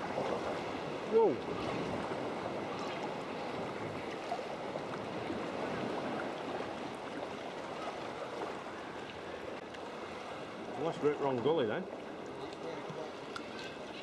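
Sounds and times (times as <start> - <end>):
water sloshing around kayak: 0.0 - 14.0.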